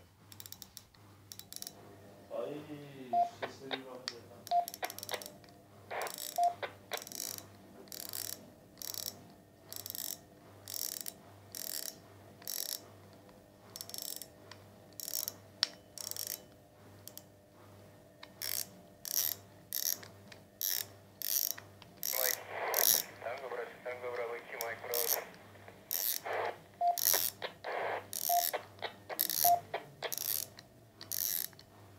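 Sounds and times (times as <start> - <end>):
scope turret scratchy clicks: 0.3 - 1.8, 3.4 - 17.3, 18.2 - 31.7.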